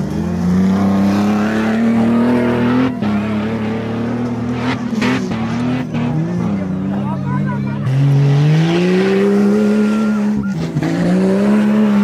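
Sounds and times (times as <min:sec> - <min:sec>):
off-road engine revving hard: 0:00.0 - 0:12.0.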